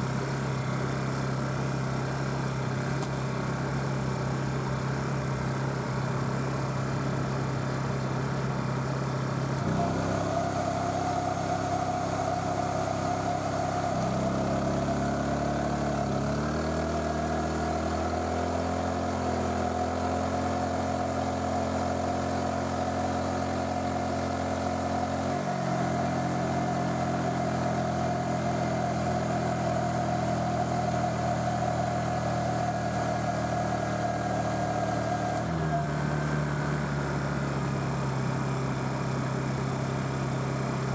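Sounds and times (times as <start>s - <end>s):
generator engine running: 0.0s - 40.9s
steady high whine: 0.0s - 40.9s.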